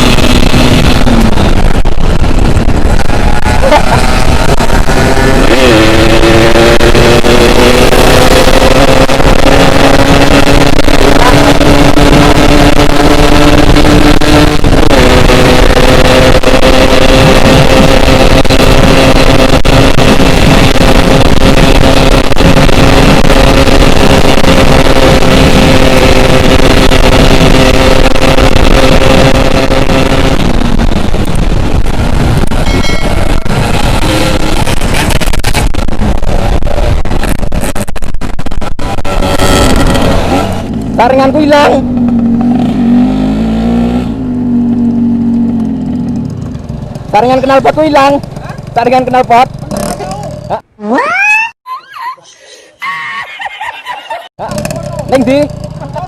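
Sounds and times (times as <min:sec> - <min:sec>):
two-stroke motorcycle engine revving: 0:00.0 - 0:50.8, 0:54.4 - 0:56.0.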